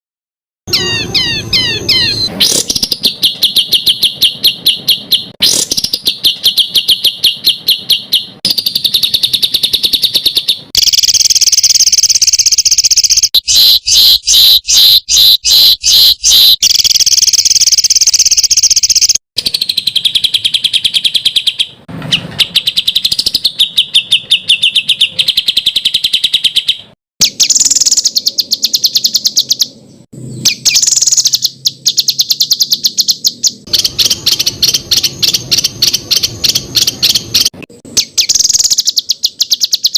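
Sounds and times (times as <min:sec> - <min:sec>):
songbird harsh repeated notes: 0:00.7 - 0:39.9.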